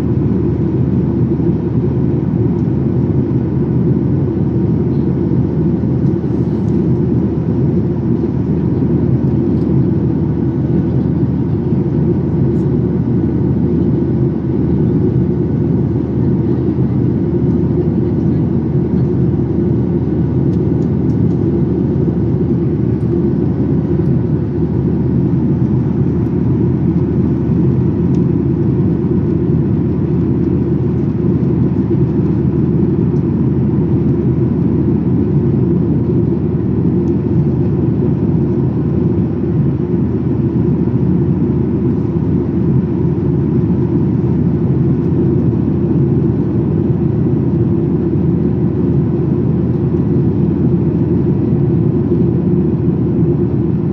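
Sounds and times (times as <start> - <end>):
airplane cabin engine rush: 0.0 - 53.9.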